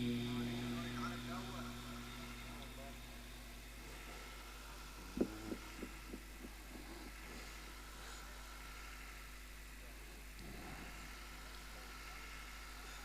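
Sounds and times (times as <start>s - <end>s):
faint background hum and hiss: 0.0s - 13.0s.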